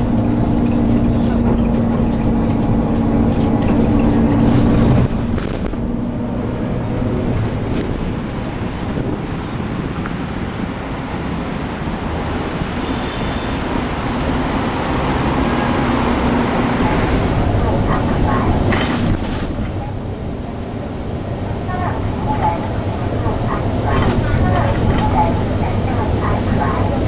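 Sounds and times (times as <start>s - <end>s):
city road traffic: 0.0s - 27.0s
engine drone: 0.0s - 27.0s.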